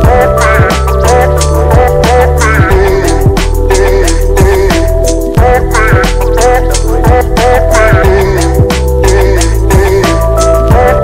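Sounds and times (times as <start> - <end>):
hip hop music with deep bass: 0.0 - 11.0.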